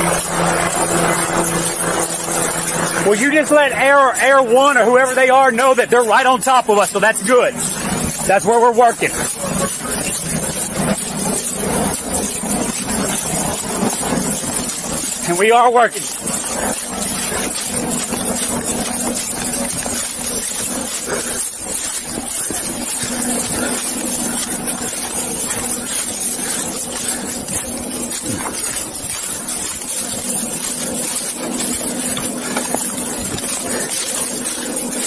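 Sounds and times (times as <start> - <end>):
helicopter engine drone overhead: 0.0 - 35.0.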